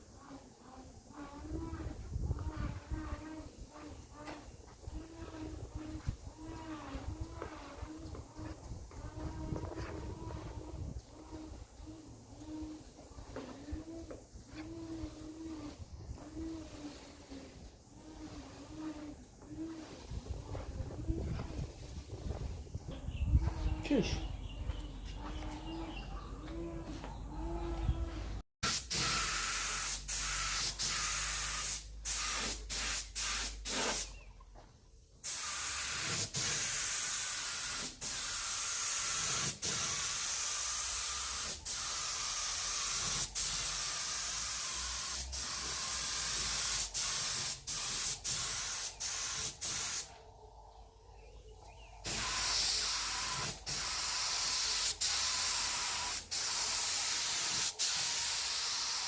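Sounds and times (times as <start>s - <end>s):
paint spray hissing: 0.6s - 22.4s, 28.6s - 34.2s, 35.2s - 50.2s, 52.0s - 59.0s.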